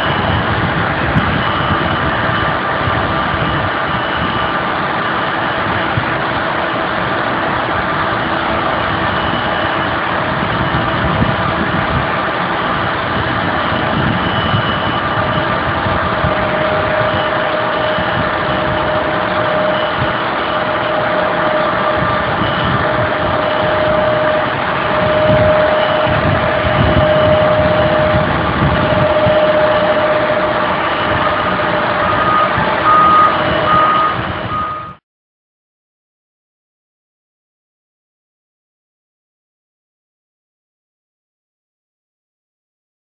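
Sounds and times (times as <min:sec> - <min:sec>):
airliner cabin engine drone: 0:00.0 - 0:35.0
faint steady whines: 0:00.0 - 0:35.0.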